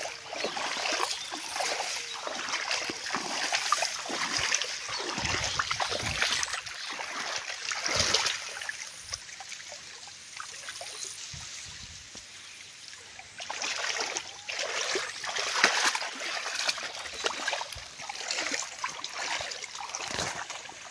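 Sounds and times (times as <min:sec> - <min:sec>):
water trickling in channel: 0:00.0 - 0:20.9.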